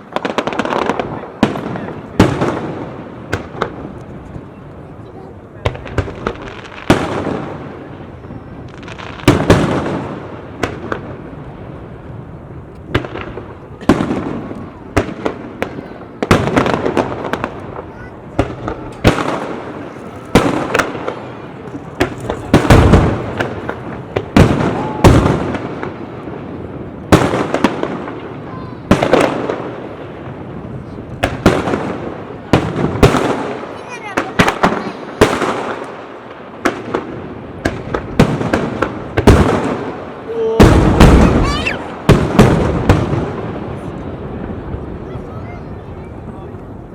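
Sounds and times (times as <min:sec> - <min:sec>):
fireworks booms: 0:00.0 - 0:46.9.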